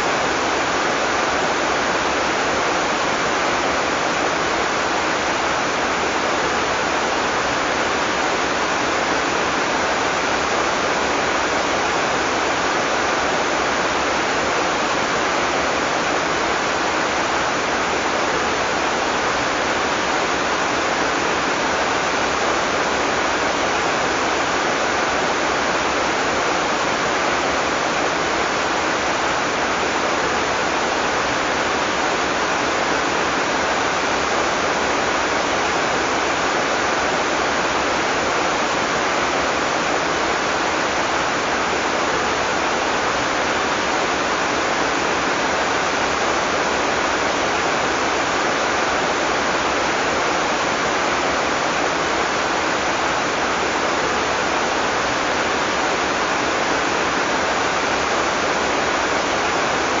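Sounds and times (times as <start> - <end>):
heavy rain hissing: 0.0 - 60.0.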